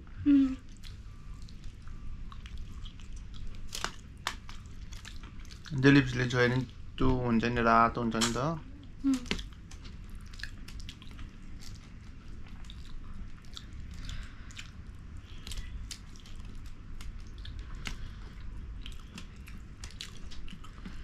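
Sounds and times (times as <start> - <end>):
people chewing: 0.2 - 6.8, 8.2 - 21.0.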